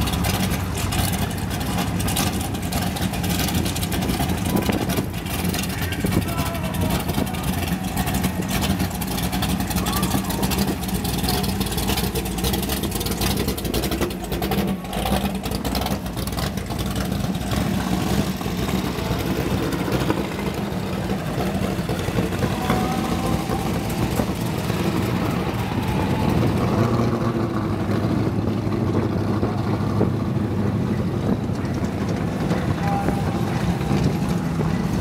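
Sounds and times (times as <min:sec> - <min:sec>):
car engines rumbling past: 0:00.0 - 0:35.0
rapid crackling exhaust: 0:00.0 - 0:35.0.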